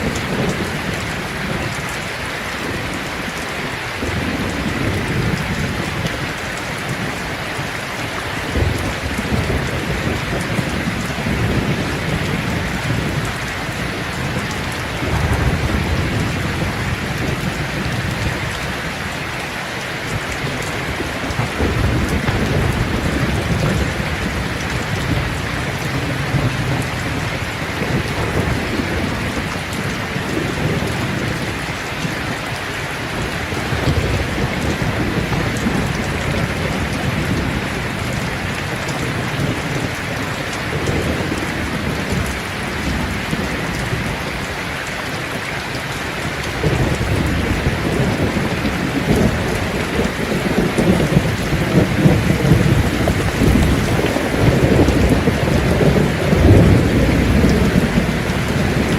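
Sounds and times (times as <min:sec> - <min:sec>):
low rolling thunder: 0:00.0 - 0:02.0, 0:03.9 - 0:44.5, 0:45.7 - 0:58.9
steady rain pouring: 0:00.0 - 0:58.9.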